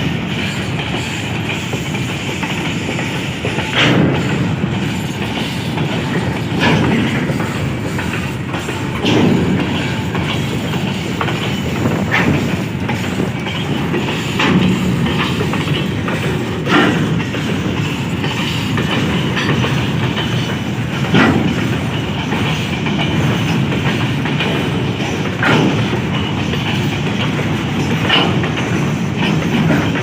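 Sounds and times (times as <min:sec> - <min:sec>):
train rumbling past: 0:00.0 - 0:30.0
wheels knocking over rail joints: 0:00.0 - 0:30.0.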